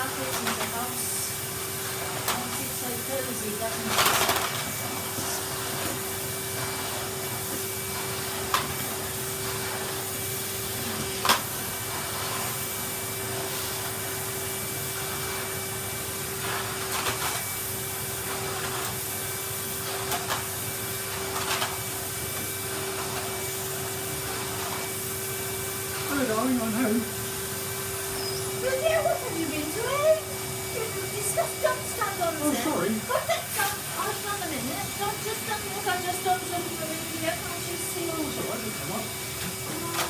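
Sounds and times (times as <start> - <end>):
vacuum cleaner humming: 0.0 - 40.0.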